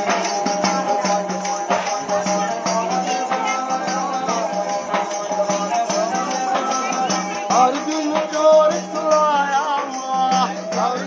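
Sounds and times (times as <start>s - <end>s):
held melody: 0.0s - 11.0s
shaken rattle percussion: 0.0s - 11.0s.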